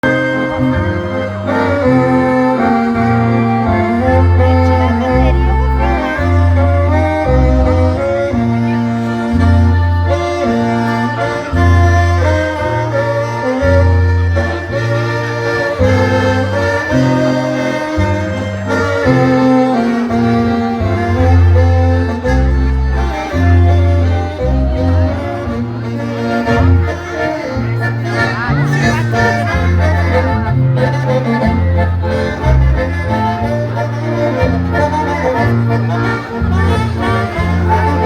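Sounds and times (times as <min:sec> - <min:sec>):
band playing a waltz: 0:00.0 - 0:38.0
heavy bass notes: 0:00.0 - 0:38.0.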